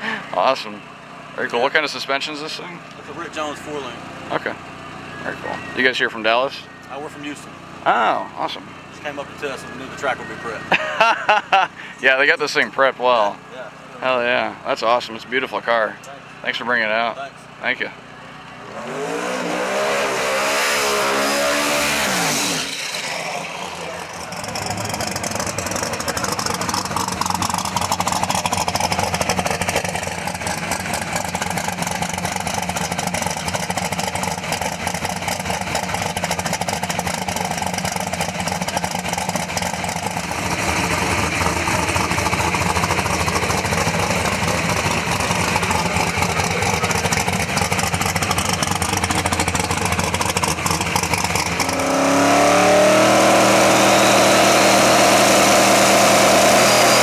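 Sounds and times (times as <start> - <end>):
drag car engine running: 0.0 - 57.0.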